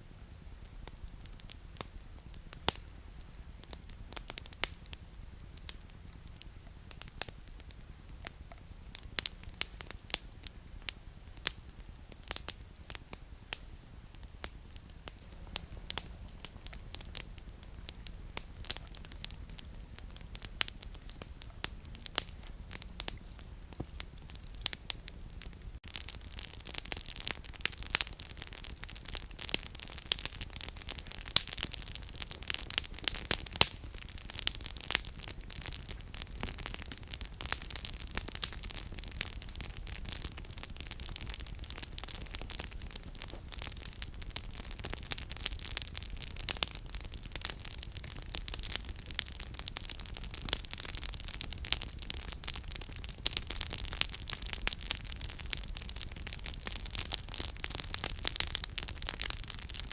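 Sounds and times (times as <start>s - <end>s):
campfire crackling and popping: 0.0s - 59.9s
soft steady hiss: 0.0s - 59.9s.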